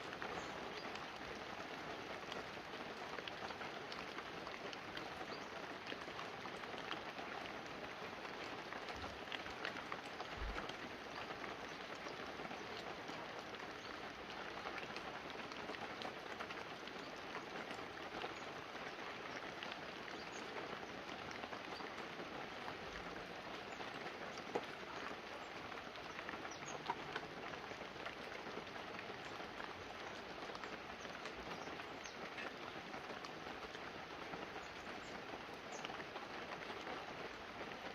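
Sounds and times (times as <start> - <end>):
rain on leaves and roof: 0.0 - 37.9.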